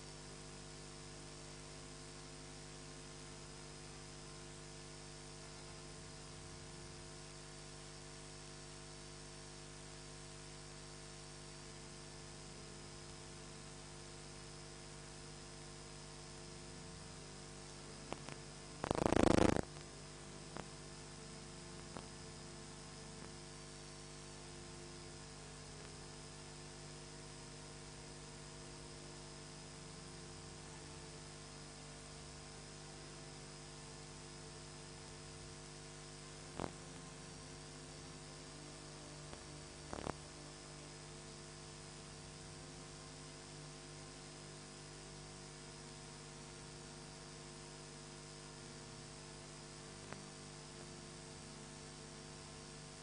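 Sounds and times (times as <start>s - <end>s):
electrical hum with hiss: 0.0s - 53.0s.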